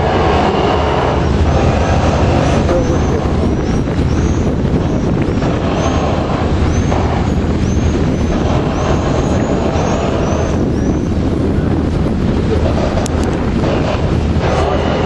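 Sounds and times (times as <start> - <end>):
ferry engine droning: 0.0 - 15.0
water wash: 0.0 - 15.0
wind noise: 0.0 - 15.0.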